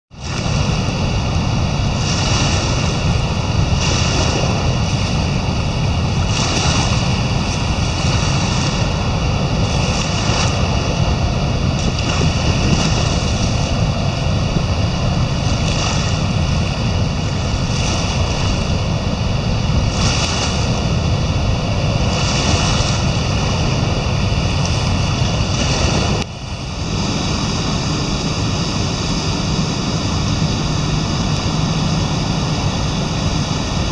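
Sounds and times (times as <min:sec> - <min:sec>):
floodwater rushing through spillway: 0:00.1 - 0:33.9
wind buffeting microphone: 0:00.1 - 0:33.9.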